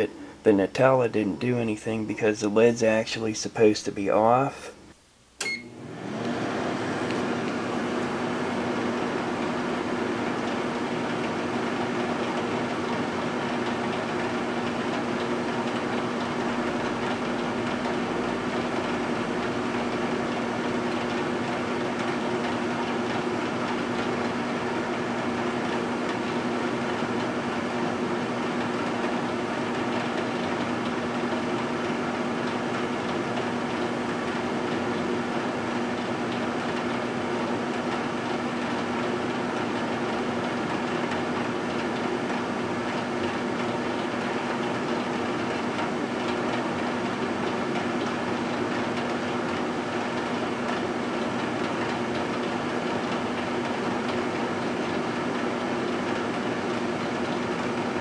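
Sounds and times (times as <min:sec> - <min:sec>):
microwave electrical hum: 0:00.0 - 0:58.0
microwave fan whirring: 0:00.0 - 0:58.0.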